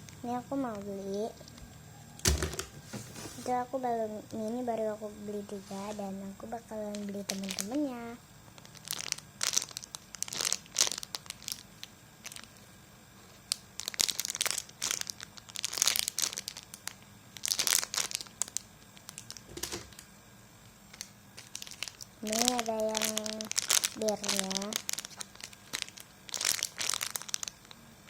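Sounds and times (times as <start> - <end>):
plastic crinkling: 0.0 - 1.7, 5.4 - 20.1, 20.9 - 28.0.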